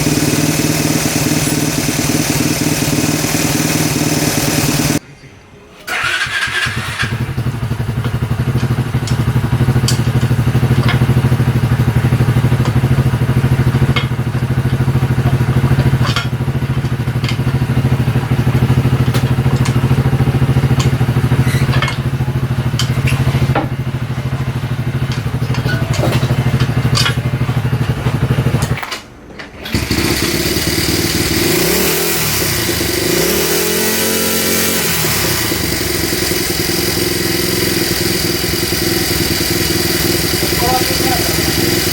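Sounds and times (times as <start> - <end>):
engine revving: 0.0 - 5.0, 5.9 - 28.8, 29.7 - 41.9
engine ticking: 0.0 - 5.0, 5.9 - 28.8, 29.7 - 41.9
small engine idling: 0.0 - 5.0, 5.9 - 28.8, 29.6 - 41.9.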